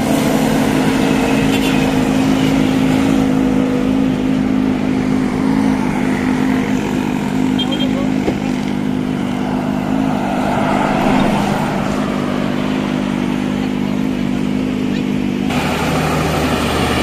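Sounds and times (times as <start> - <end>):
highway traffic hum: 0.0 - 17.0.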